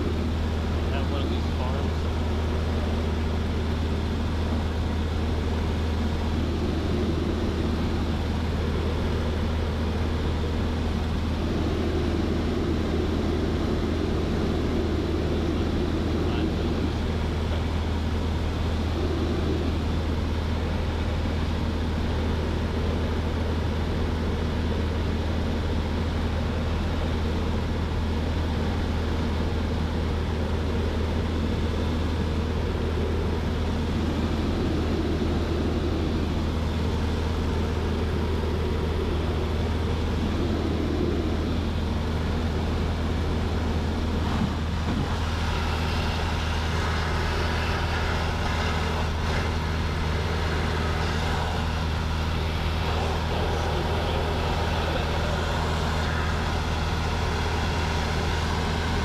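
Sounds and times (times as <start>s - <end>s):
aircraft engine droning in cabin: 0.0s - 59.0s
wind and airframe noise: 0.0s - 59.0s.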